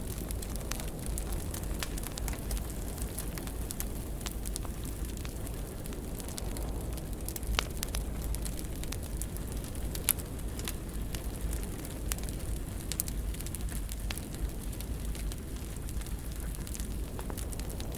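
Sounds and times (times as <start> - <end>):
fire crackles and pops: 0.0 - 17.9
wood fire rumbling: 0.0 - 17.9.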